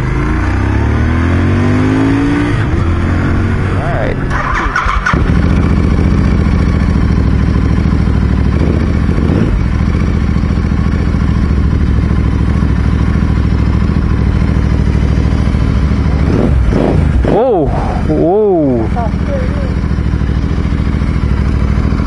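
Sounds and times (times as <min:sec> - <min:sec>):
motorcycle engine idling: 0:02.7 - 0:22.0.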